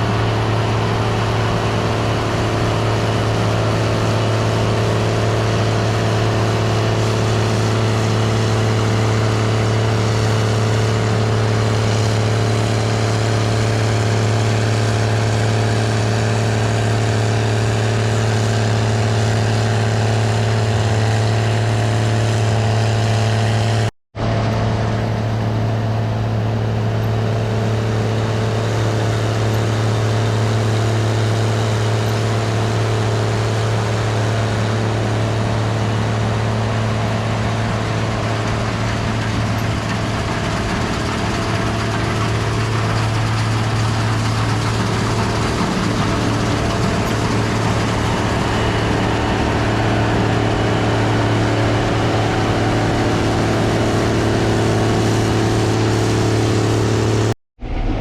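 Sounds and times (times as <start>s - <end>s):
combine engine hum: 0.0s - 58.0s
threshing machinery whir: 0.0s - 58.0s.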